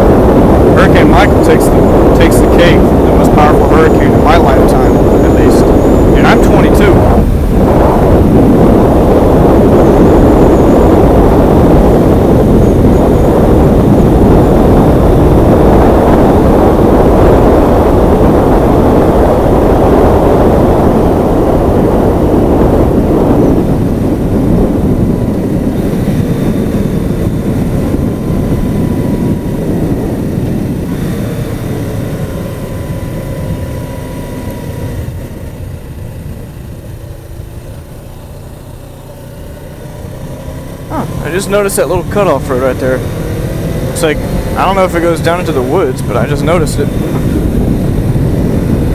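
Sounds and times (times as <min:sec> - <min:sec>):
motorcycle engine: 0:00.0 - 0:48.9
rushing wind: 0:00.0 - 0:48.9.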